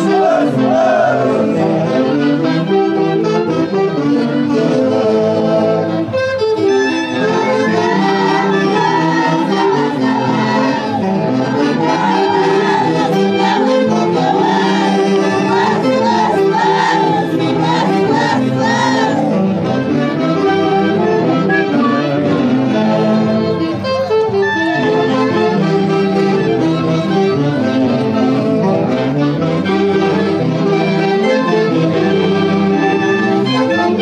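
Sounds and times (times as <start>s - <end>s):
saxophones playing: 0.0s - 34.0s
violins playing: 0.0s - 34.0s.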